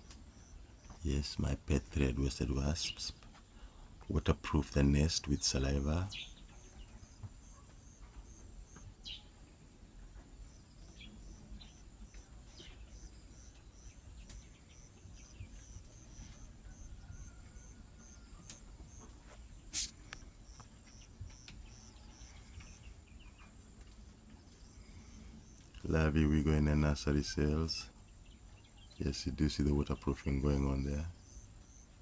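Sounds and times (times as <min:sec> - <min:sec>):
cricket chirping: 0:00.0 - 0:01.2, 0:05.6 - 0:29.4, 0:30.9 - 0:32.0.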